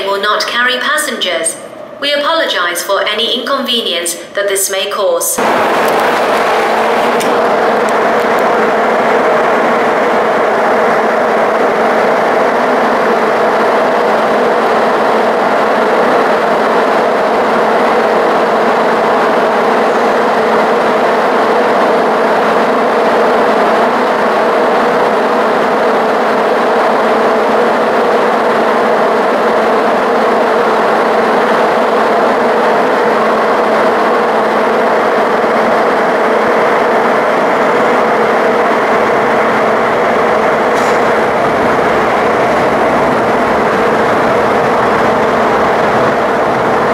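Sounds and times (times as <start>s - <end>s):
metro train running in tunnel: 0.0s - 46.9s.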